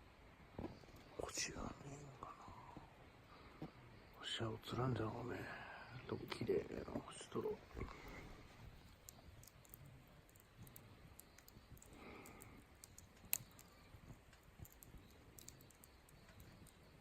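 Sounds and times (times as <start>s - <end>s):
campfire crackling: 0.3s - 17.0s.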